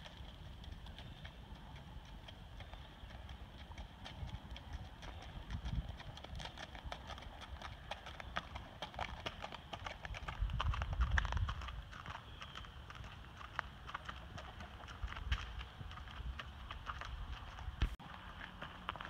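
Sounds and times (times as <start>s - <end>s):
horse hooves on gravel: 0.0s - 19.0s.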